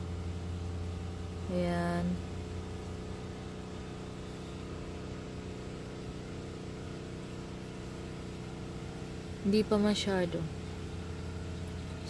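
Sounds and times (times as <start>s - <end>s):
lawn mower engine: 0.0s - 12.0s.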